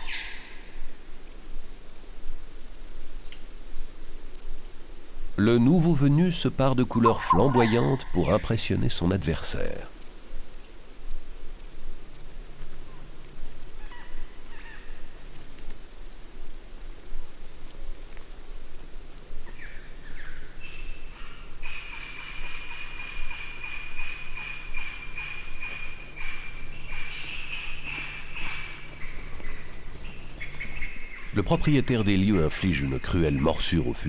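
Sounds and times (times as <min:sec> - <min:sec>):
high pulsing insect chirring: 0:00.0 - 0:31.2
lower insect trilling call: 0:00.0 - 0:34.0.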